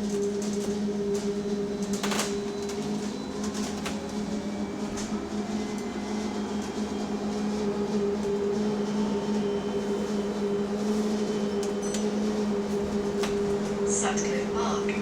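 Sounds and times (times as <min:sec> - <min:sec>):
electric bus hum: 0:00.0 - 0:15.0.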